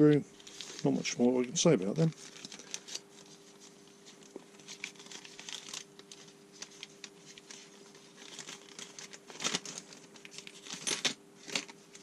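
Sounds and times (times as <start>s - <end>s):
faint steady hum: 0.0s - 12.0s
plastic bag crinkling: 0.3s - 12.0s.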